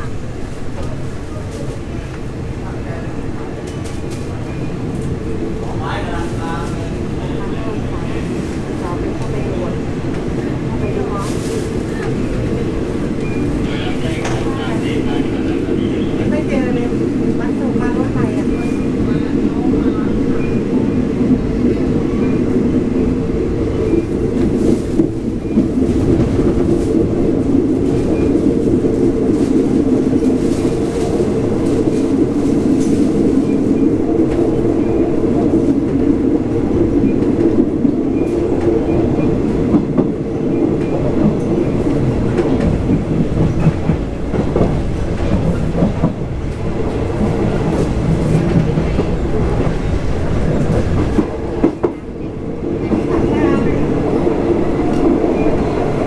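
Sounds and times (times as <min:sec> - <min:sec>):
train rumble and rattle: 0:00.0 - 0:56.0.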